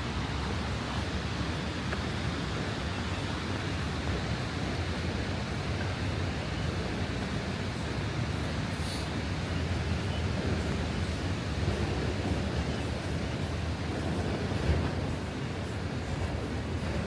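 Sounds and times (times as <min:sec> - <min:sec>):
low outdoor background roar: 0:00.0 - 0:17.0.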